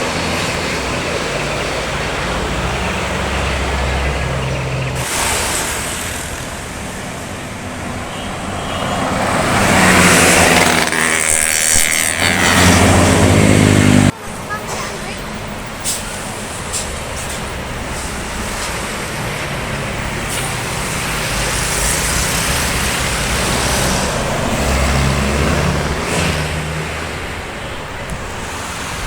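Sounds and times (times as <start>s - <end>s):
diesel engines running: 0.0s - 29.0s
large vehicle passing loudly: 0.0s - 29.0s.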